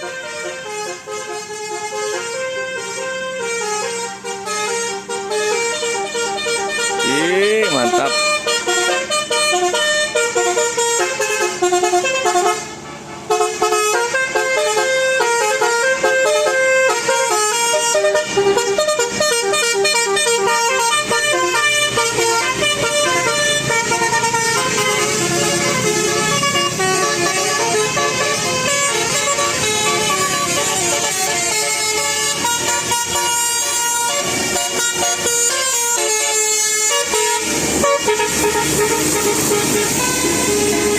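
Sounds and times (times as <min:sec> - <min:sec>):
bus horn playing a tune: 0:00.0 - 0:40.9.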